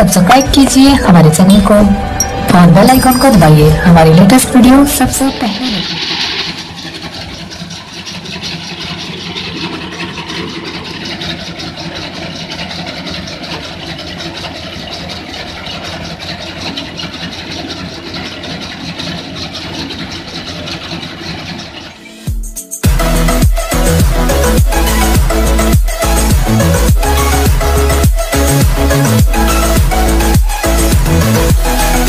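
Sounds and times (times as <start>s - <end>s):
tractor diesel engine clattering: 0.0s - 32.0s.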